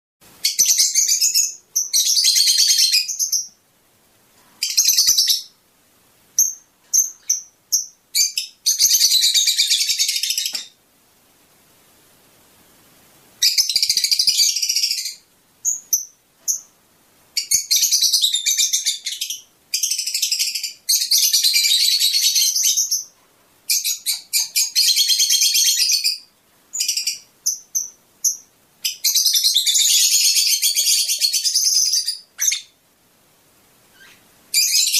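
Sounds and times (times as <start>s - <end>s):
birds chirping rapidly: 0.4s - 3.6s, 4.6s - 5.6s, 6.4s - 10.8s, 13.4s - 16.8s, 17.4s - 32.8s, 33.9s - 34.9s.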